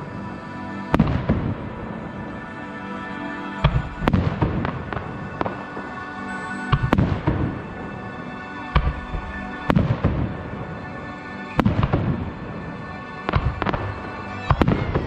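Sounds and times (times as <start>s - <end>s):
music playing: 0.0s - 15.0s.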